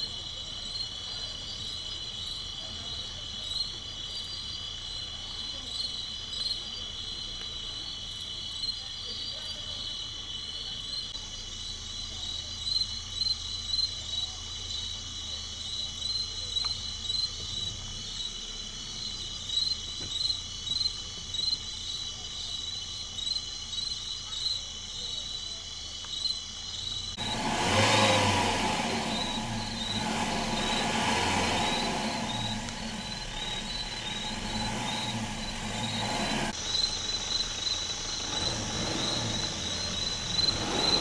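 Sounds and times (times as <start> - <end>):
crickets trilling: 0.0 - 41.0
pulsing cricket chirps: 0.0 - 41.0.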